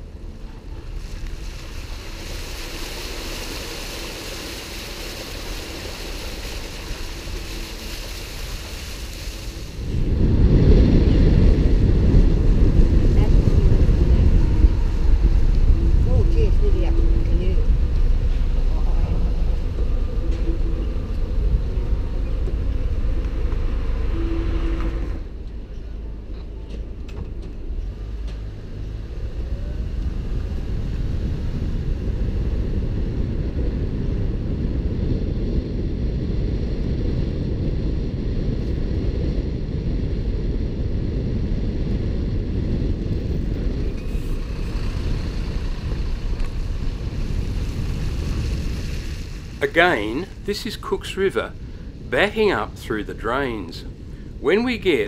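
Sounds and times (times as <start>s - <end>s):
car driving on wet road: 0.0s - 35.3s, 41.5s - 54.7s.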